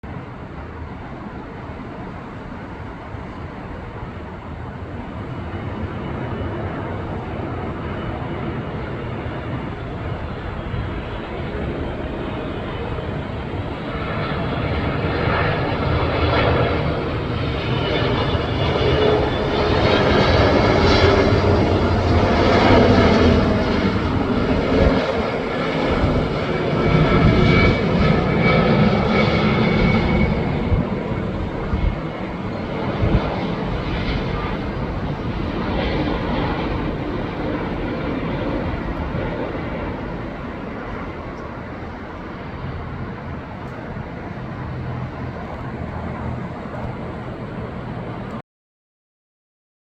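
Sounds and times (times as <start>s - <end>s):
jet airliner passing overhead: 0.0s - 48.4s.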